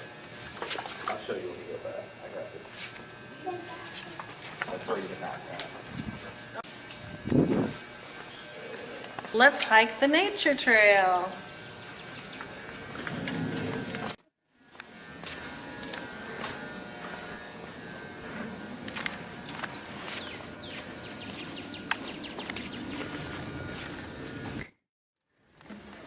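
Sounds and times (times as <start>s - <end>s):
insects buzzing: 0.0s - 24.8s.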